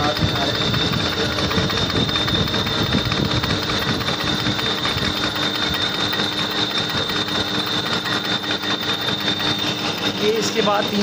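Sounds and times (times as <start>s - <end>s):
constant high whine: 0.0s - 11.0s
metal lathe running: 0.0s - 11.0s.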